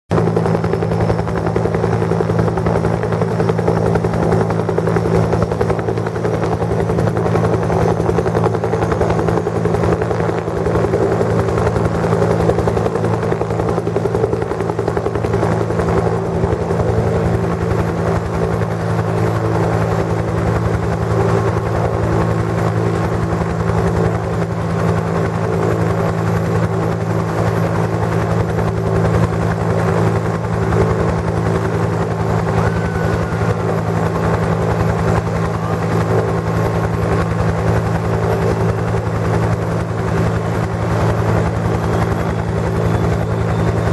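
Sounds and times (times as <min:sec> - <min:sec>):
helicopter engine drone: 0:00.1 - 0:43.9
helicopter rotor blade beat: 0:00.1 - 0:43.9.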